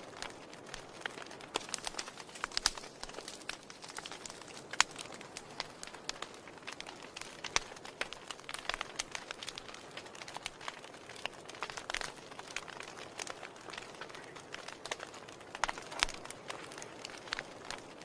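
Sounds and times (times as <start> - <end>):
fire hiss: 0.0 - 18.0
wood fire crackling and popping: 0.0 - 18.0.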